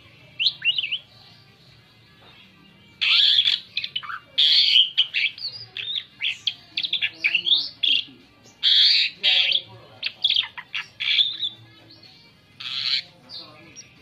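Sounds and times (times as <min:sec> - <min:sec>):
starling harsh rasping calls: 0:00.4 - 0:01.1, 0:03.0 - 0:14.0.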